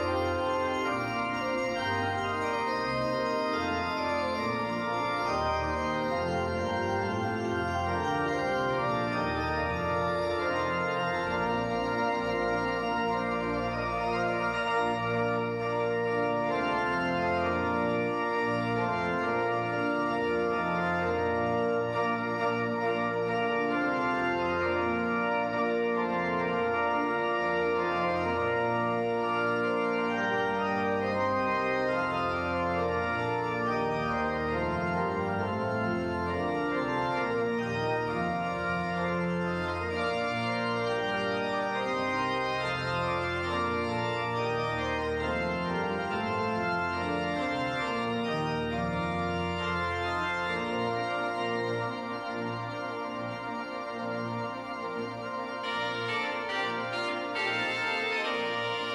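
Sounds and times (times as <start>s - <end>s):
pipe organ chords: 0.0s - 58.9s.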